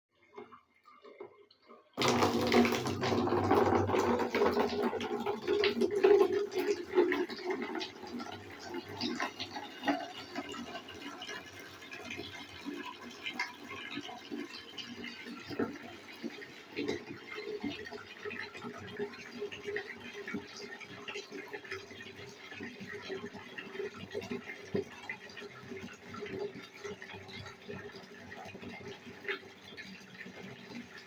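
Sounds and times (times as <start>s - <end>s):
water spatters and drips: 0.4s - 31.0s
water running and splashing: 2.0s - 31.0s.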